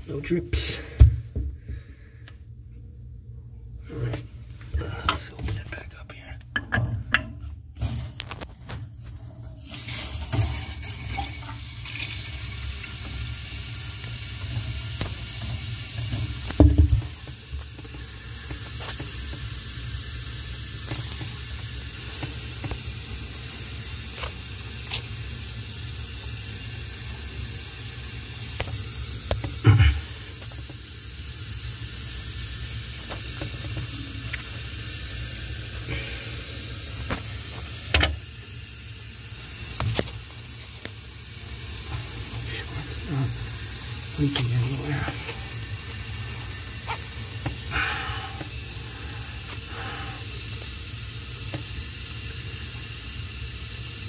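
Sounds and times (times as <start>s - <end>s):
water hissing through pipes: 0.0s - 2.1s, 7.7s - 54.0s.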